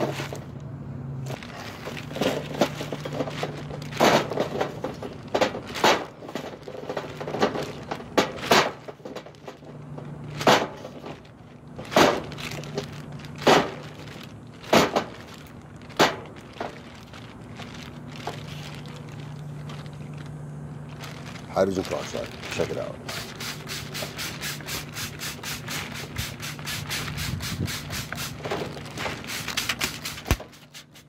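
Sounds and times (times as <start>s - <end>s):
plastic bag rustling: 0.0s - 0.5s, 1.2s - 31.0s.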